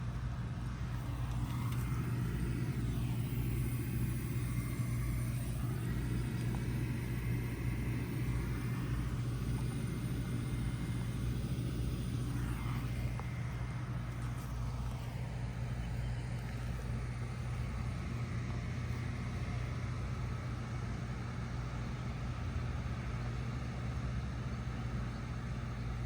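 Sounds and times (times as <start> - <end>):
heat pump humming: 0.0 - 26.0.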